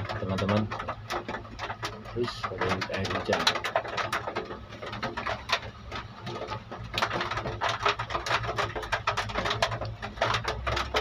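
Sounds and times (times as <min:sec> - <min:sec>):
heavy rain drumming on cab roof: 0:00.0 - 0:11.0.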